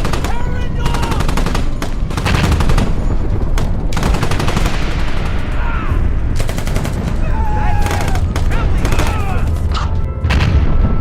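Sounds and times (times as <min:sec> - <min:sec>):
machine-gun fire: 0:00.0 - 0:09.7
low battle rumble: 0:00.0 - 0:11.0.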